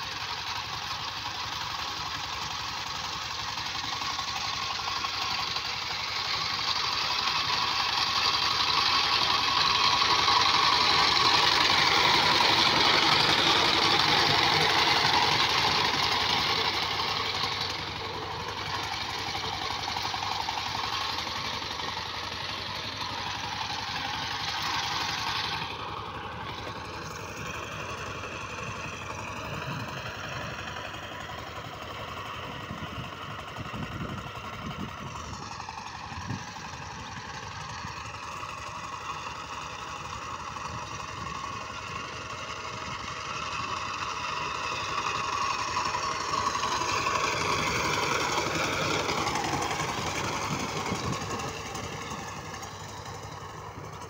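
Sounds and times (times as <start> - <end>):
diesel engine running under load: 0.0 - 54.0
rotary tiller churning soil: 0.0 - 54.0.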